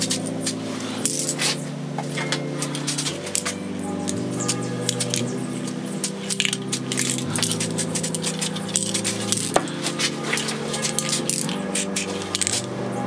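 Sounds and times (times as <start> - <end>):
slow sustained chords music: 0.0 - 13.0.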